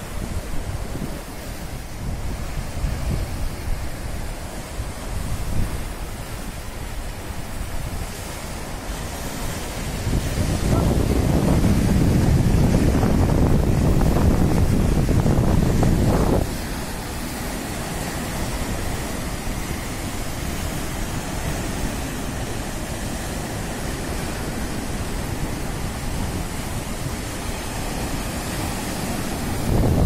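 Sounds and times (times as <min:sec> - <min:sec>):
waves breaking on rocks: 0:00.0 - 0:30.0.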